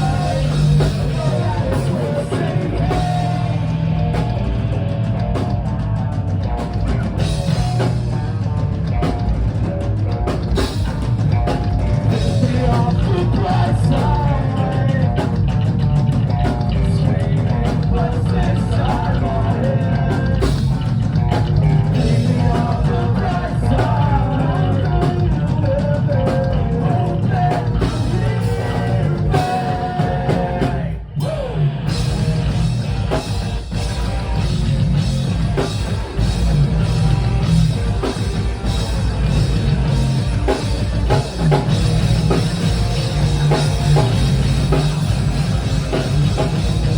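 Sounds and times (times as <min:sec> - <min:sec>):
rock band playing: 0:00.0 - 0:46.9.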